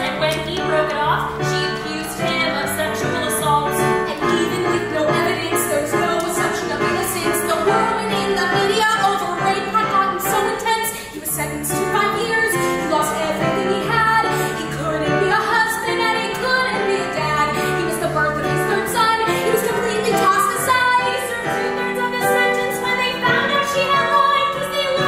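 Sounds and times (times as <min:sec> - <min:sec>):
keyboard accompaniment: 0:00.0 - 0:25.0
woman singing: 0:00.0 - 0:25.0.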